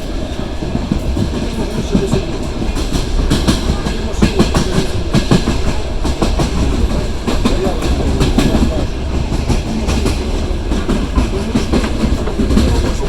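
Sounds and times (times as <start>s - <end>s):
train carriage rumbling: 0.0s - 13.0s
wheels clacking over rail joints: 0.0s - 13.0s.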